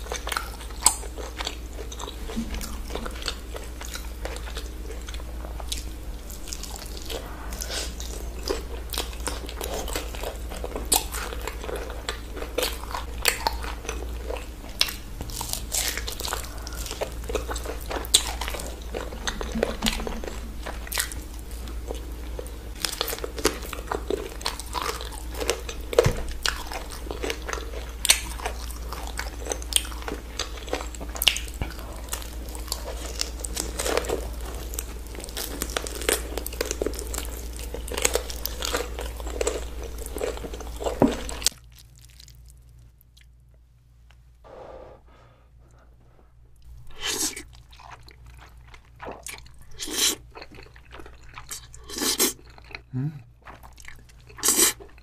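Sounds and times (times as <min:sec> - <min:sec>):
person chewing crunchy chicken: 0:00.0 - 0:43.3, 0:46.6 - 0:55.0.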